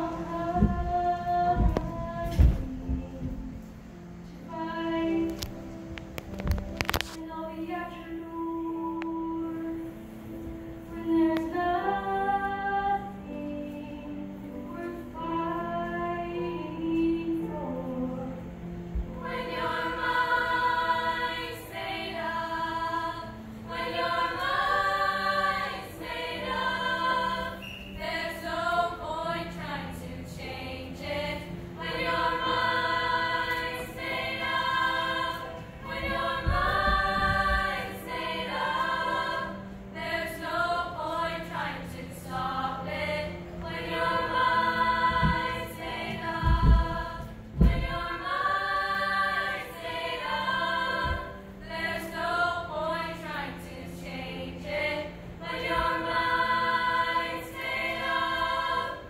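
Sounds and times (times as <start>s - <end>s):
girls' choir singing: 0.0s - 5.6s, 6.5s - 59.0s.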